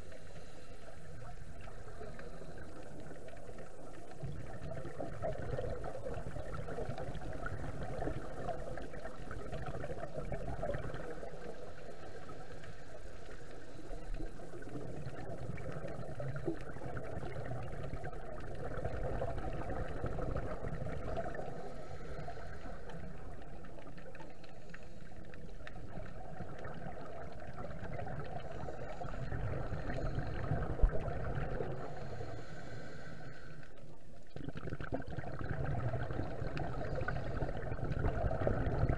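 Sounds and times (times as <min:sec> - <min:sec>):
muffled underwater noise: 0:00.0 - 0:38.9
bubbles: 0:01.2 - 0:12.4, 0:13.9 - 0:24.6, 0:25.2 - 0:32.3, 0:34.2 - 0:38.9.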